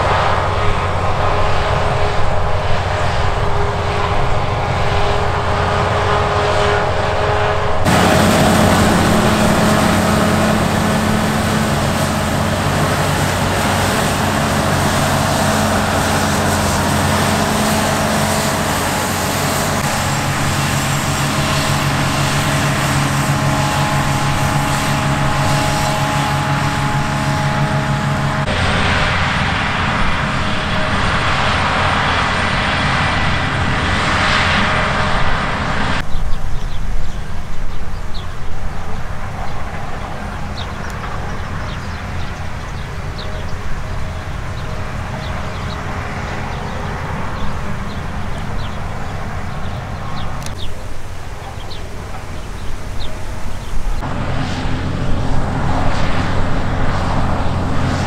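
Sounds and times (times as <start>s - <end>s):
combine harvester engine and threshing: 0.0s - 58.0s.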